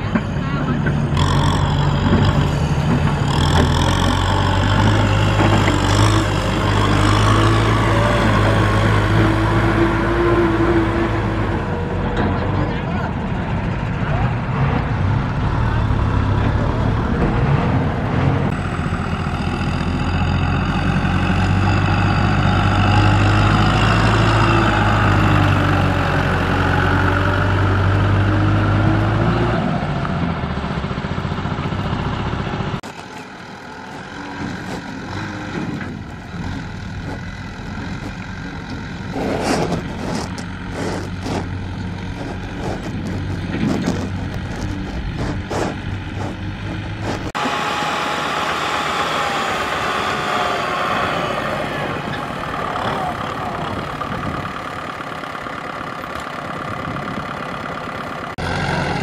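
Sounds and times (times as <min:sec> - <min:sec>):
trailer knocks and rattles: 0:00.0 - 0:47.4
tractor engine running under load: 0:00.0 - 0:59.0.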